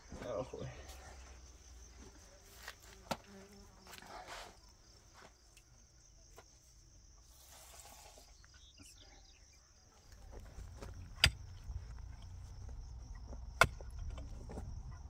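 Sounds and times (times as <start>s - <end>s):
high-pitched insect trill: 0.2s - 15.0s.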